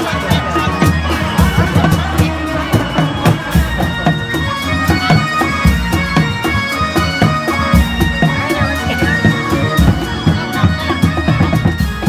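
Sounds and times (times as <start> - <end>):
drums beating fast rhythm: 0.0 - 12.0
piercing reed-wind melody: 0.0 - 12.0.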